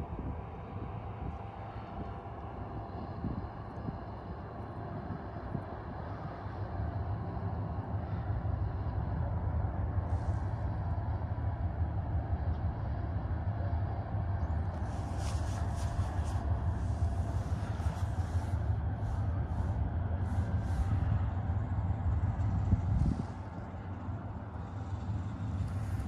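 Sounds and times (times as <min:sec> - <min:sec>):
ship engine rumble: 0:00.0 - 0:26.0.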